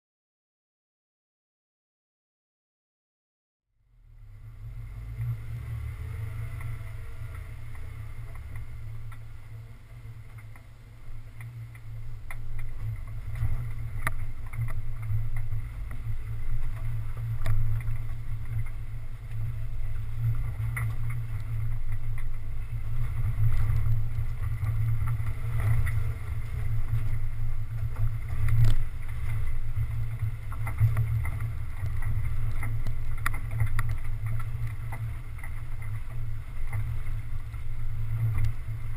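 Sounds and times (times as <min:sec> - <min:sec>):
engine low rumble: 0:03.7 - 0:38.9.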